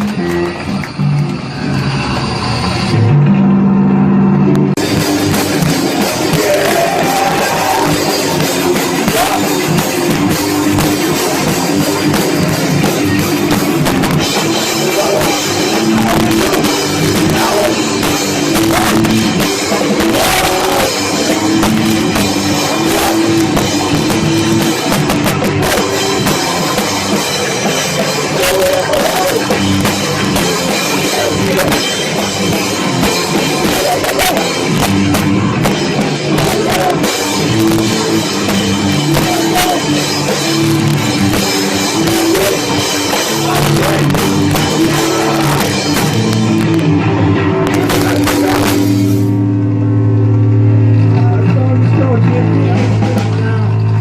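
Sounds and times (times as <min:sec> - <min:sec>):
distorted guitars: 0:00.0 - 0:54.0
pounding drum kit: 0:00.0 - 0:54.0.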